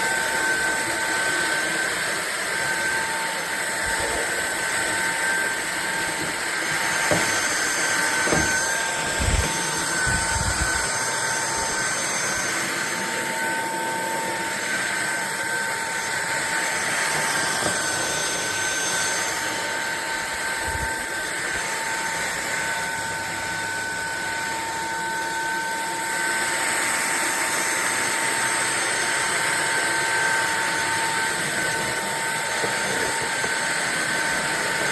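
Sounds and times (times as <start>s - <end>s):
stick vacuum cleaner running: 0.0s - 34.9s.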